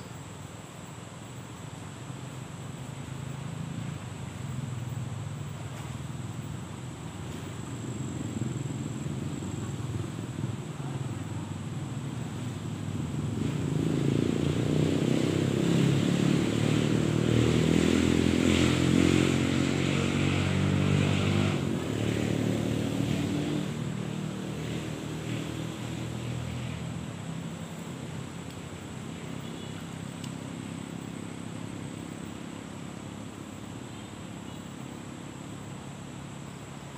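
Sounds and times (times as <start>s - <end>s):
motor vehicle passing by: 2.0s - 36.9s.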